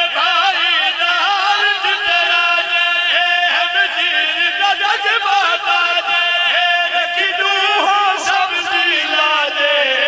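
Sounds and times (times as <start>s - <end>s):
men chanting a sung elegy: 0.0s - 10.0s.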